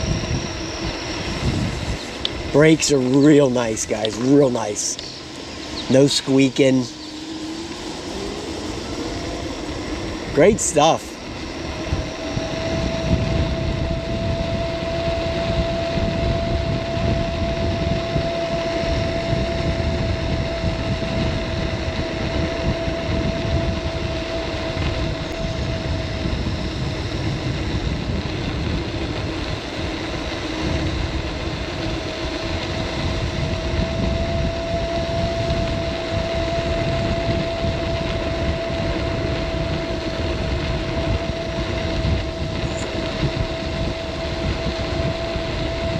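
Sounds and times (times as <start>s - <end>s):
electric scooter motor whine: 0.0s - 45.9s
wind: 0.0s - 45.9s.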